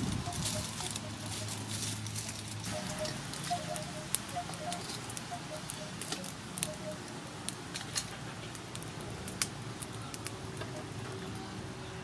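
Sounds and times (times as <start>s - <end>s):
charcoal crackling: 0.0s - 11.8s.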